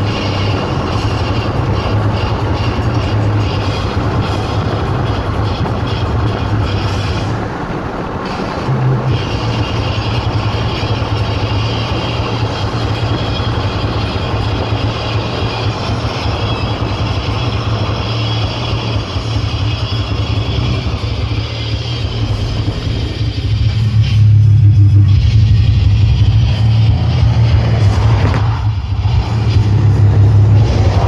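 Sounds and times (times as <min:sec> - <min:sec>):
car engine low drone: 0:00.0 - 0:31.0
tyre road noise: 0:00.0 - 0:31.0.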